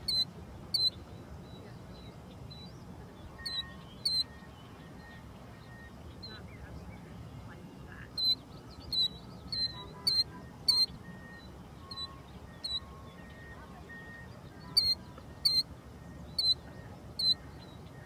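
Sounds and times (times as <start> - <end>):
killdeer calls: 0.0 - 18.0
soft birdsong: 0.0 - 18.0.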